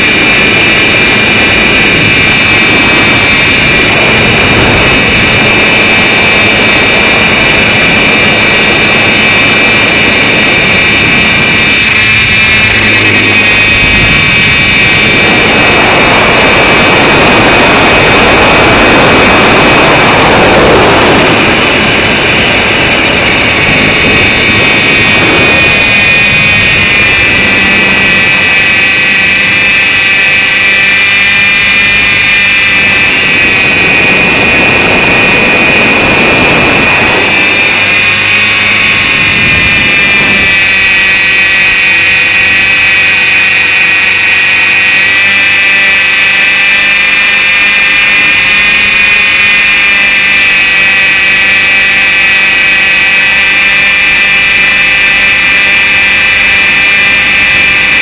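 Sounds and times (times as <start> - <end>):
rc helicopter motor whine: 0.0 - 58.0
rushing noise: 0.0 - 58.0.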